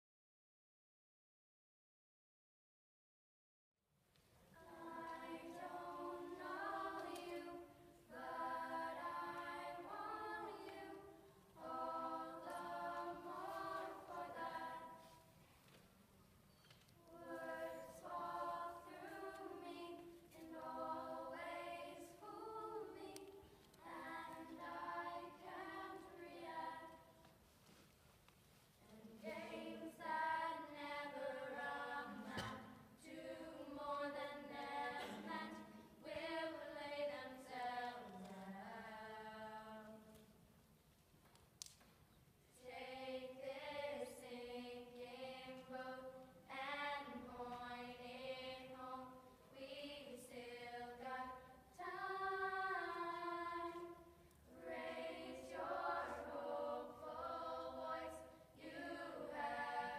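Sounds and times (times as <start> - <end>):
choir singing slow song: 4.5 - 15.9, 16.9 - 27.8, 28.8 - 40.6, 42.4 - 59.9.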